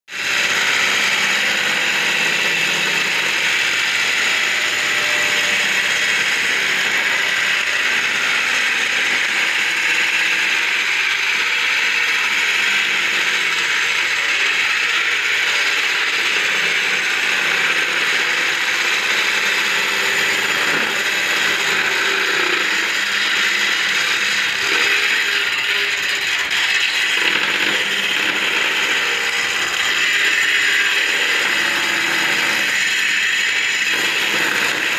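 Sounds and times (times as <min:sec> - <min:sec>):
circular saw cutting wood: 0:00.1 - 0:34.9.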